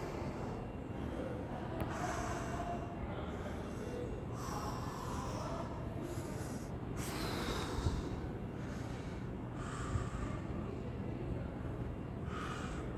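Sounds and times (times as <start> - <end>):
person breathing: 0.0 - 10.5, 12.3 - 12.9.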